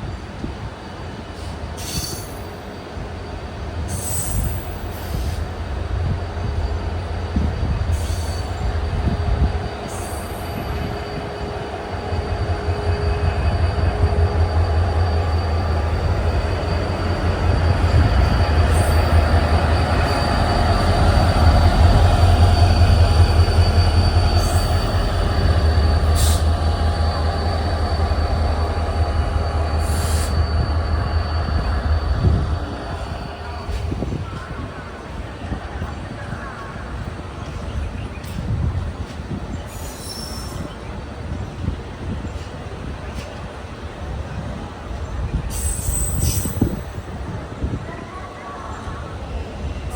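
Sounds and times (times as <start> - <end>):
diesel locomotive engine hum: 0.0 - 49.9
train wheels on rails: 0.0 - 49.9.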